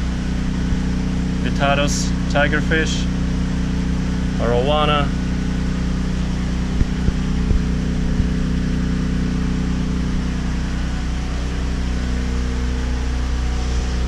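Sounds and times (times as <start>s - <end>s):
generator engine hum: 0.0s - 14.0s.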